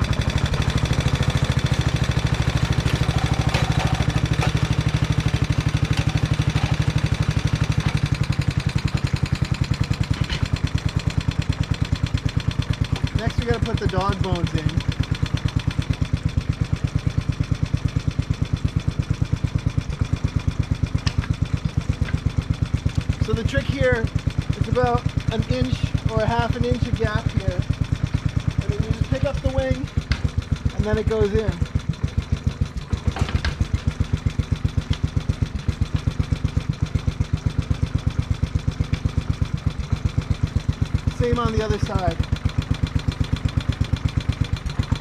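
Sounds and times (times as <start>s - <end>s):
mower engine idling: 0.0s - 45.0s.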